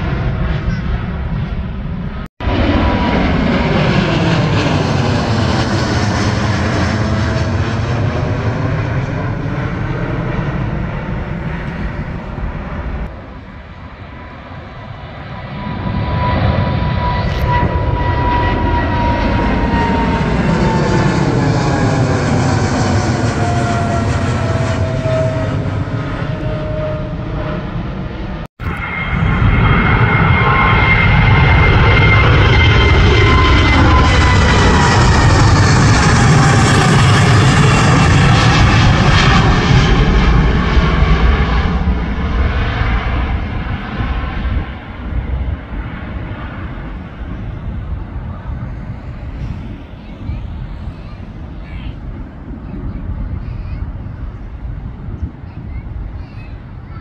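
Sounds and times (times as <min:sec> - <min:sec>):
jet airliners passing overhead: 0:00.0 - 0:57.0.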